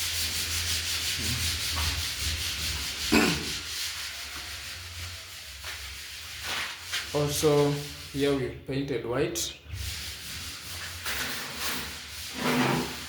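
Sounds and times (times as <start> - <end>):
scratchy rubbing: 0.0 - 8.4, 9.8 - 13.0.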